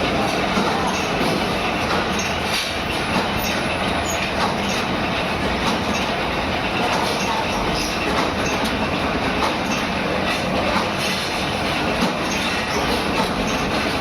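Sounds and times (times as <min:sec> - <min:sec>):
factory machinery running: 0:00.0 - 0:14.0.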